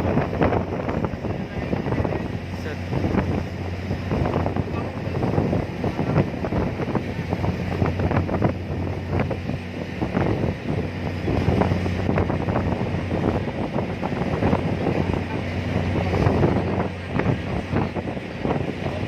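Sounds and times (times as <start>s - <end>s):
ferry engine humming: 0.0s - 19.0s
wind buffeting microphone: 0.0s - 19.0s.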